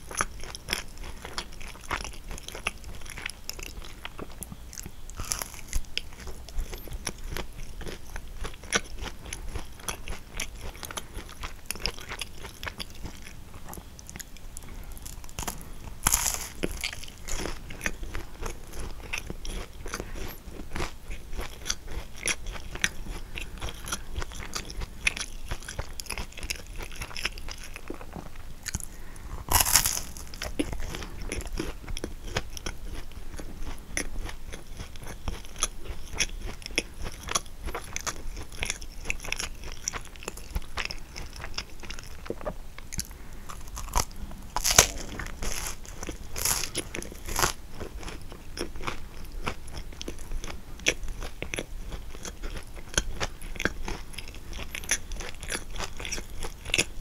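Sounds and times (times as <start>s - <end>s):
crunchy pastry chewing: 0.0s - 57.0s.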